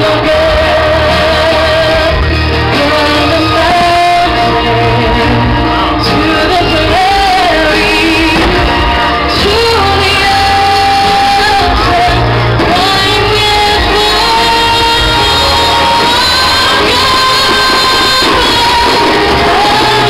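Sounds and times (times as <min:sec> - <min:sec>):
band with steady low bass: 0:00.0 - 0:20.0.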